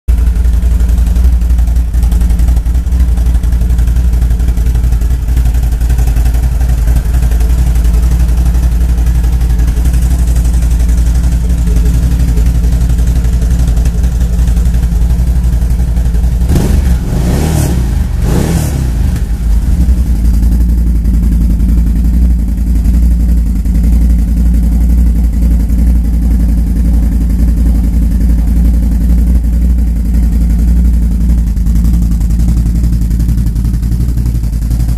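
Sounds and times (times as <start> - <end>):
atv engine rumbling: 0.1 - 34.9.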